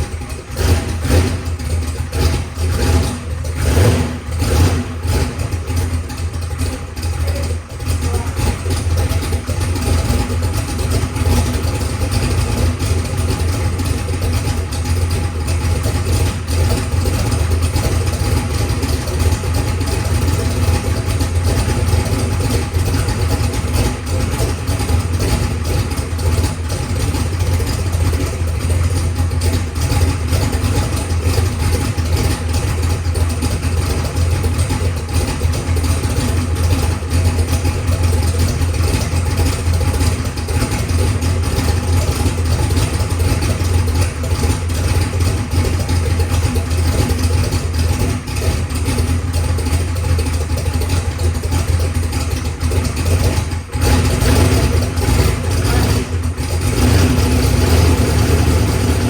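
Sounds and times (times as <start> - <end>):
race car engine idling: 0.0 - 59.0.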